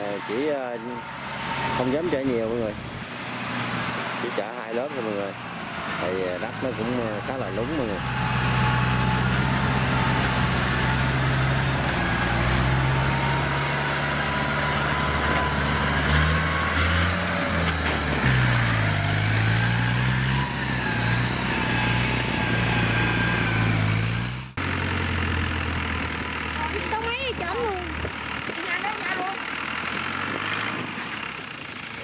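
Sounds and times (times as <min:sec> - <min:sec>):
tractor engines under load: 0:00.0 - 0:32.0.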